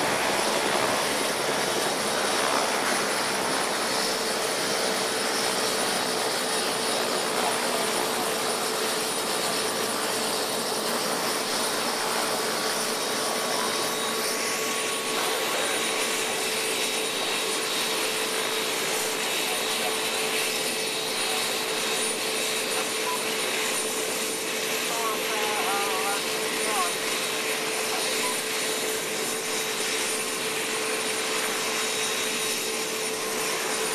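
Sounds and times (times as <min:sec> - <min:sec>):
helicopter turbine engine running: 0:00.0 - 0:33.9.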